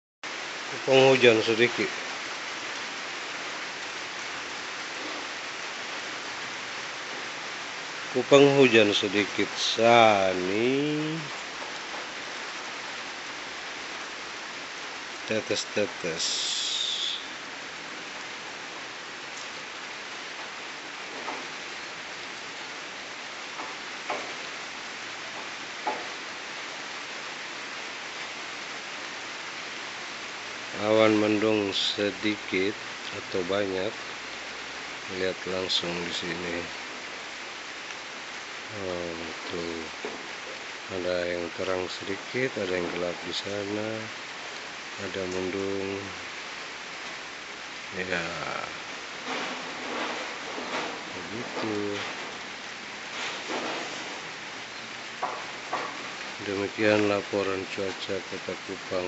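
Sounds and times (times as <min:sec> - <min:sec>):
light rain falling: 0:00.2 - 0:59.0.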